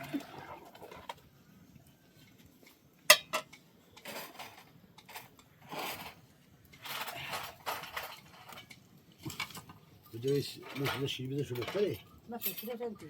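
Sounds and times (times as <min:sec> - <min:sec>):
scraping and rustling handling: 0:02.1 - 0:12.9.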